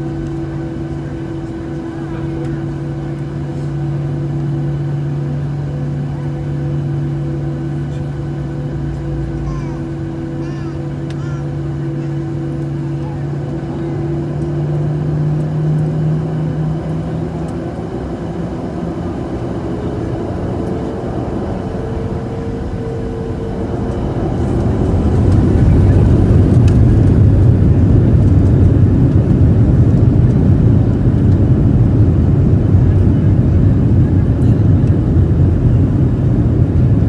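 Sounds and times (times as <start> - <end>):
jet engines heard in cabin: 0.0 - 37.0.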